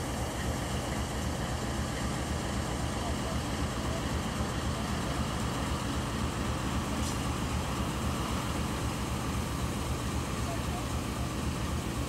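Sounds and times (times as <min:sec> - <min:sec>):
locomotive engine running: 0:00.0 - 0:12.0.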